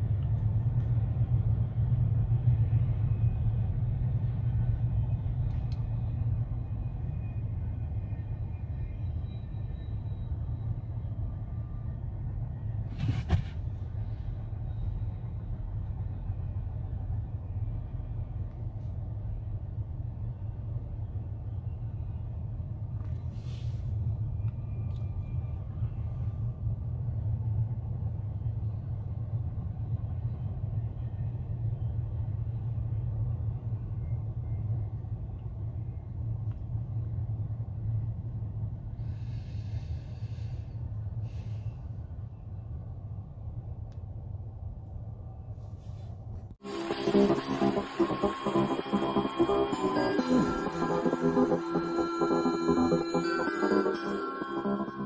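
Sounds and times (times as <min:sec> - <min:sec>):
low rumble of vehicles: 0:00.0 - 0:55.0.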